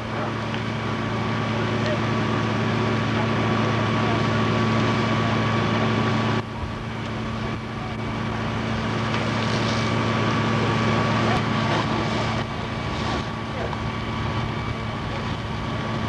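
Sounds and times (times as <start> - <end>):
fire engine pump humming: 0.0 - 16.0
large fire rushing: 0.0 - 16.0.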